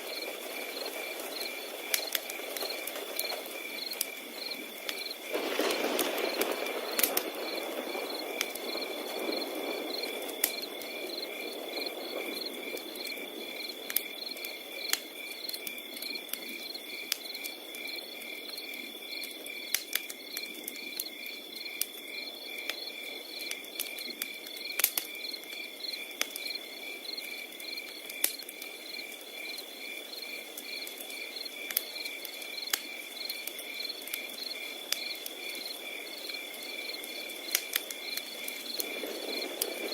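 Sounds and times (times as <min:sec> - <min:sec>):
soft rush of burning: 0:00.0 - 0:17.1, 0:21.9 - 0:39.9
cricket chirping in pulses: 0:00.0 - 0:39.9
cricket trilling: 0:00.0 - 0:39.9
wood fire crackling: 0:00.0 - 0:39.9.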